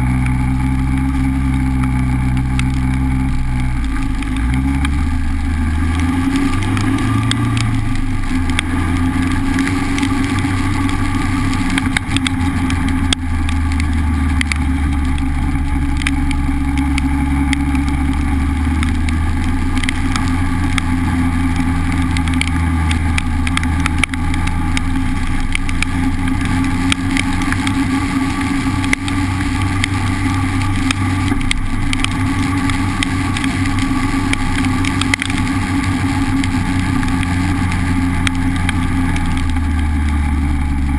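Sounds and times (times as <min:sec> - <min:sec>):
car engine and road drone: 0:00.0 - 0:40.9
raindrops ticking on camera: 0:00.0 - 0:40.9.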